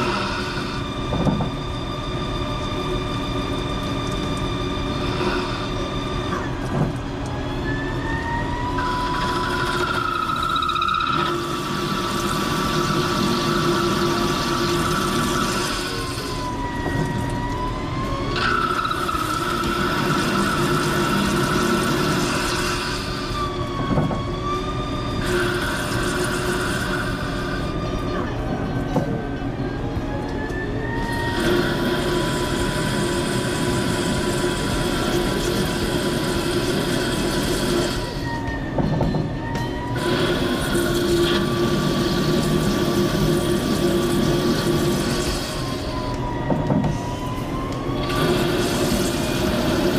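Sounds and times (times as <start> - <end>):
lathe machine whine: 0.0 - 49.9.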